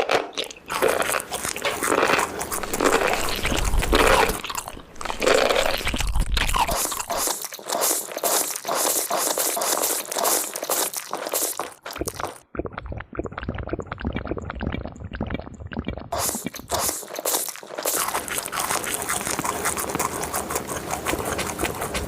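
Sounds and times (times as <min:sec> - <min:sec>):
crunchy chewing: 0:00.0 - 0:13.7, 0:16.1 - 0:22.0.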